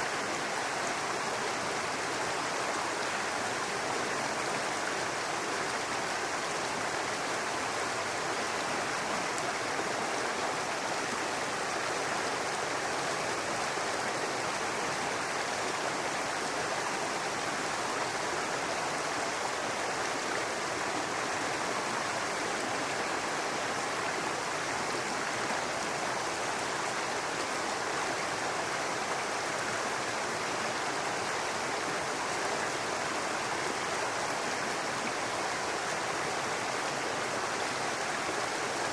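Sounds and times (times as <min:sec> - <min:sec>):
brook babbling over rocks: 0:00.0 - 0:38.9.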